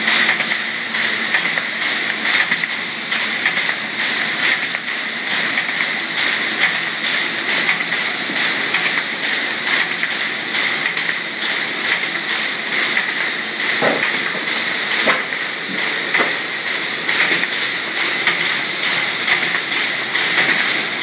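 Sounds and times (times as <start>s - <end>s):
machine belts and rollers whirring: 0.0s - 21.0s.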